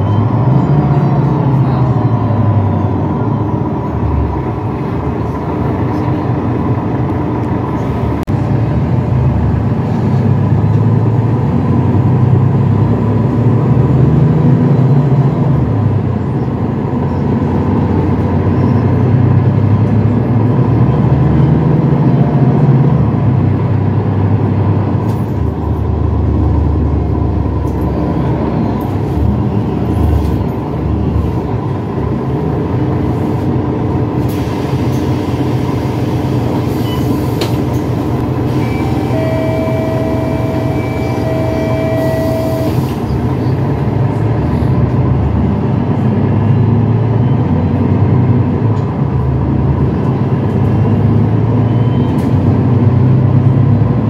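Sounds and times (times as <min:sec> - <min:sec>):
bus engine droning: 0:00.0 - 0:54.0.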